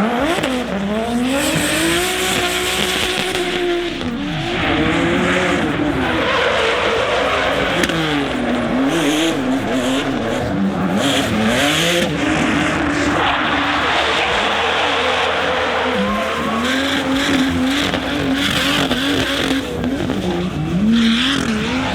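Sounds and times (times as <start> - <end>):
car engines revving: 0.0 - 21.9
tyre squeal: 0.0 - 21.9.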